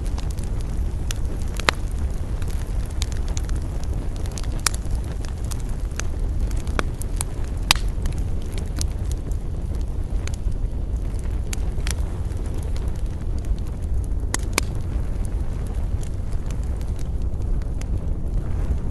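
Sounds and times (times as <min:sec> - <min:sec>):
campfire crackling and popping: 0:00.0 - 0:18.9
low rumble: 0:00.0 - 0:18.9.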